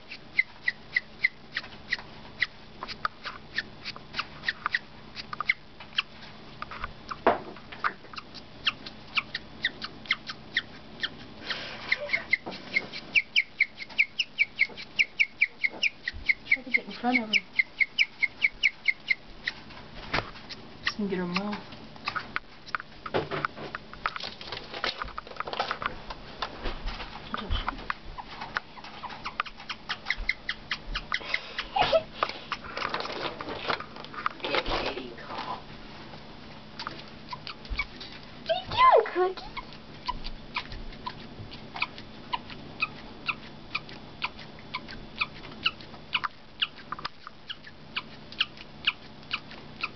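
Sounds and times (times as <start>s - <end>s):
guinea pig chirping: 0.0s - 25.9s, 27.3s - 35.6s, 36.6s - 49.9s.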